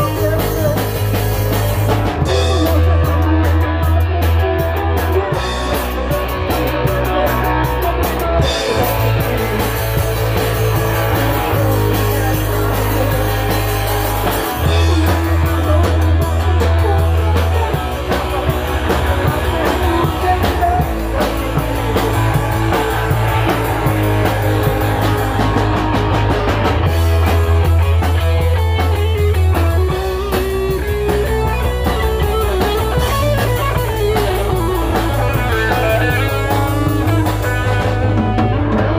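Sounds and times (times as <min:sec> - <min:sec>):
bass holding long low notes: 0:00.0 - 0:38.9
rock band playing: 0:00.0 - 0:38.9.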